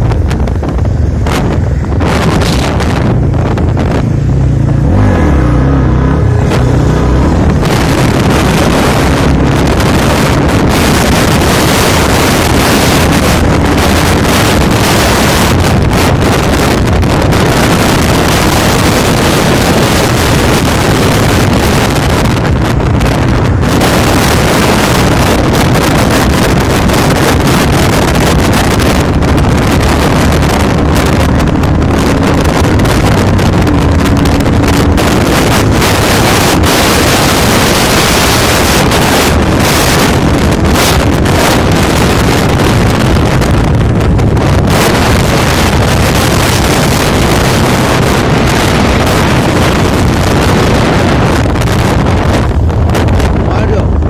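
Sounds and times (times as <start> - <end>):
motorbike engine drone: 0.0 - 54.0
road noise: 0.0 - 54.0
wind rushing over microphone: 0.0 - 54.0.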